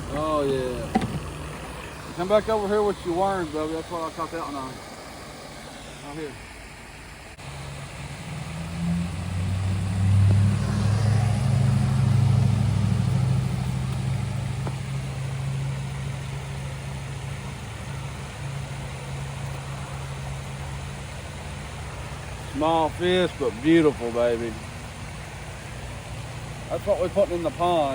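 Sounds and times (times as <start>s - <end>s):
vehicle engine humming: 0.0s - 27.9s.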